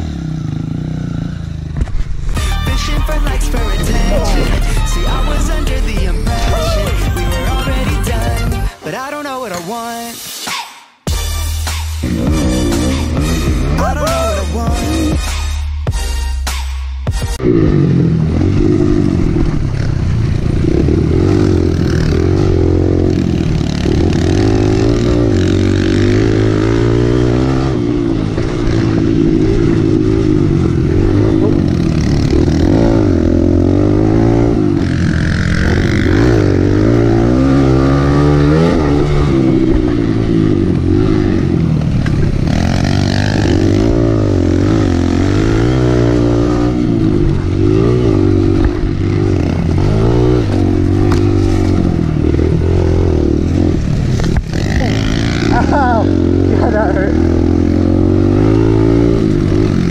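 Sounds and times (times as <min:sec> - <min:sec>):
motorbike engine revving: 0:00.0 - 0:08.7, 0:11.9 - 0:16.0, 0:17.3 - 0:59.9.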